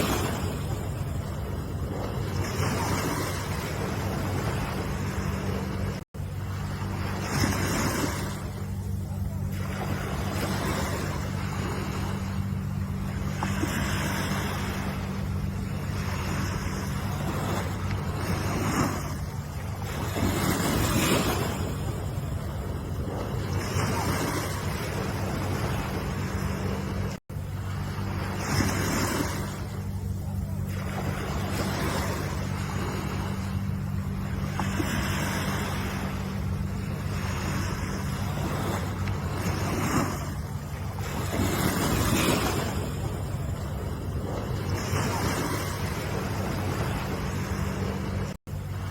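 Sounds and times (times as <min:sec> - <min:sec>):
low rumble: 0:00.0 - 0:48.9
ocean waves washing in: 0:00.0 - 0:48.9.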